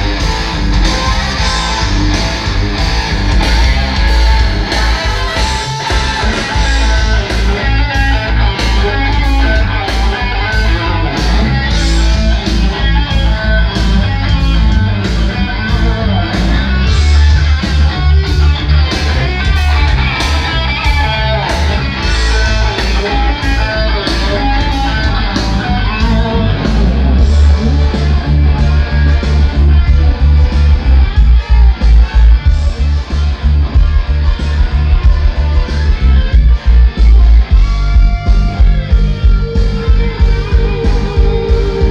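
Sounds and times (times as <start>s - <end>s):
loud rock music with electric guitar: 0.0s - 41.9s.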